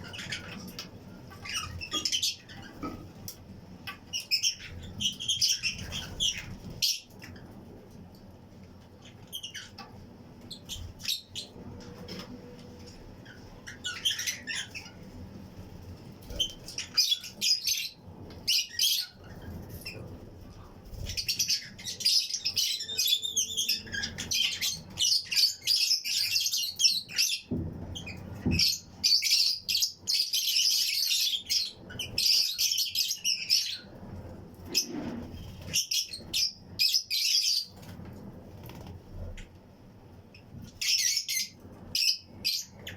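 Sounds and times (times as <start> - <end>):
lovebirds chirping: 0.0 - 7.6, 8.9 - 34.0, 40.3 - 42.9.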